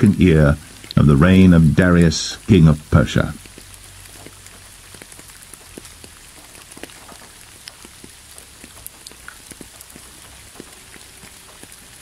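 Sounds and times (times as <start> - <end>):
light rain: 0.0 - 12.0.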